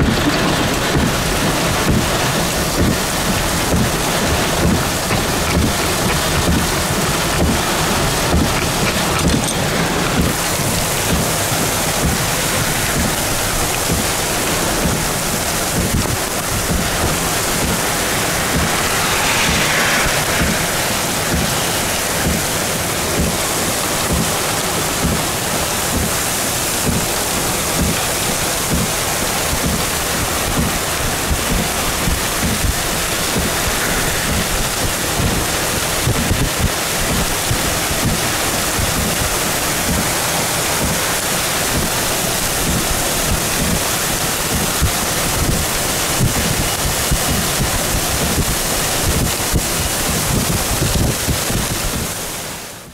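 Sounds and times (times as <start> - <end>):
wind buffeting microphone: 0.0 - 52.7
heavy rain: 0.0 - 52.9.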